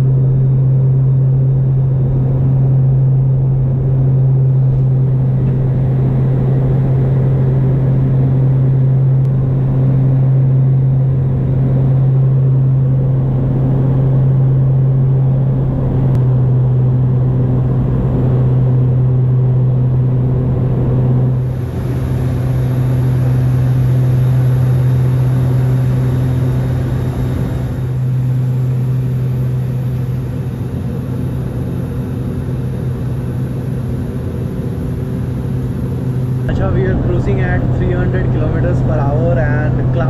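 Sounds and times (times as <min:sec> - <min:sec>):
turboprop cabin drone: 0:00.0 - 0:40.0.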